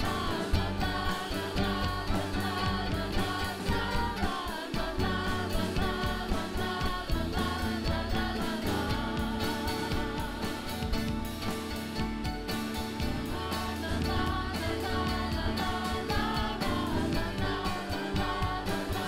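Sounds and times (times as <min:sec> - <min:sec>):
group of voices singing: 0:00.0 - 0:19.0
instrumental accompaniment with beat: 0:00.0 - 0:19.0.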